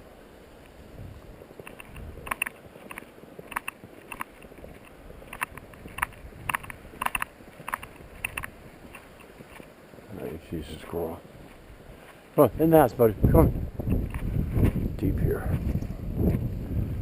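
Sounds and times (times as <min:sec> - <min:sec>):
wind rumble on microphone: 0:00.0 - 0:02.9, 0:04.4 - 0:17.0
footsteps crunching in snow: 0:00.1 - 0:17.0.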